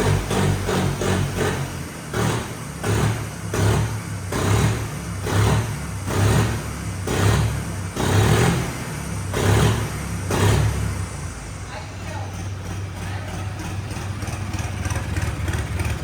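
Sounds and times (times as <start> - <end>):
tractor diesel engine pulsing: 0.0 - 16.0.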